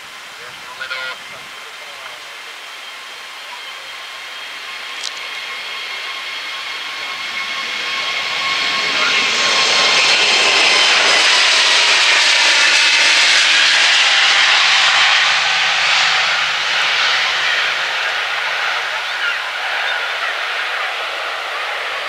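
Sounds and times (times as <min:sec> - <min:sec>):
jet engines at takeoff: 0:00.0 - 0:22.0.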